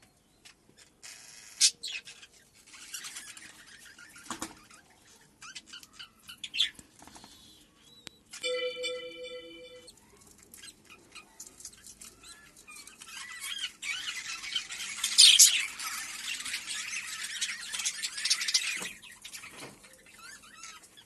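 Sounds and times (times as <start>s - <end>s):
budgerigars chattering and squawking: 0.4s - 7.6s, 10.6s - 21.0s.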